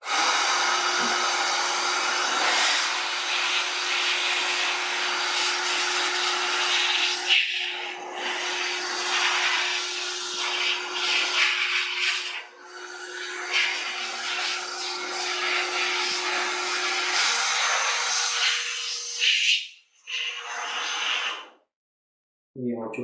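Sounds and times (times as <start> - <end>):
electric air blower running: 0.0 - 18.9.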